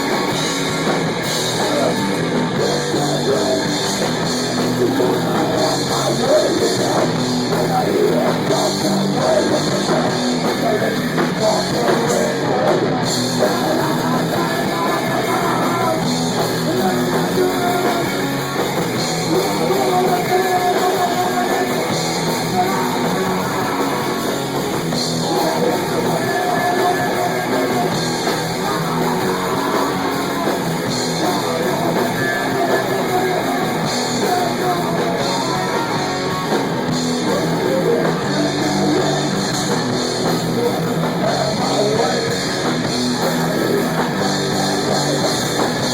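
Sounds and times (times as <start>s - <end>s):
drums: 0.0s - 45.9s
electric guitar: 0.0s - 45.9s
rock band playing: 0.0s - 45.9s
person singing: 1.4s - 24.4s, 25.0s - 45.9s.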